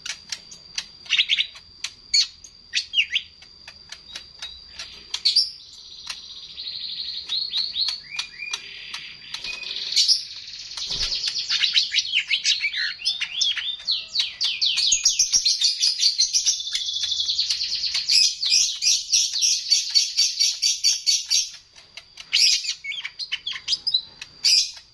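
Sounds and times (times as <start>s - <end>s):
songbird singing: 0.0s - 24.9s.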